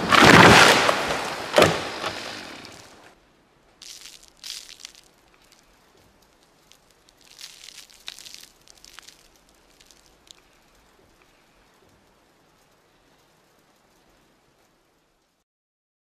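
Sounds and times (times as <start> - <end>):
burning wood crackling: 0.0 - 15.4.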